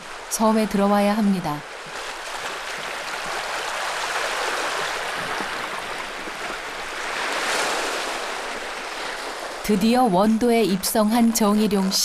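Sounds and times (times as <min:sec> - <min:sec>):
seawater washing and lapping: 0:00.0 - 0:12.0.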